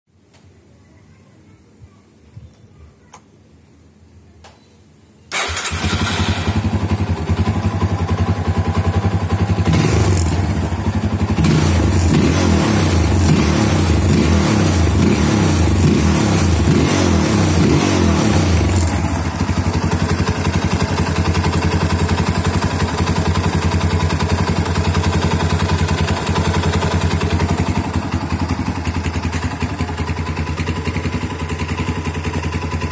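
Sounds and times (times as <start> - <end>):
motorcycle engine starting and idling: 5.3 - 32.9.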